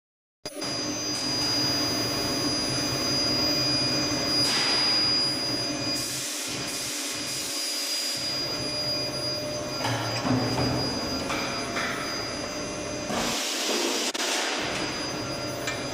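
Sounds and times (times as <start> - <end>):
induction heating machine humming: 0.5 - 15.9.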